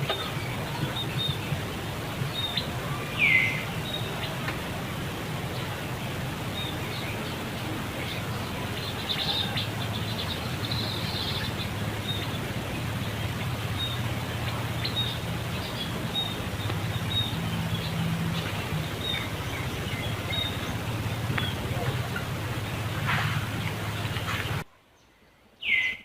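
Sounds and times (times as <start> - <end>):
steady low hum: 0.0 - 24.7.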